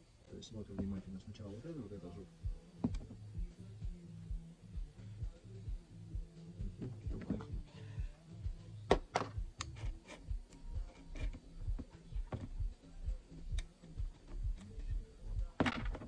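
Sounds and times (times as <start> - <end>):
quiet music with steady beat: 0.0 - 16.0.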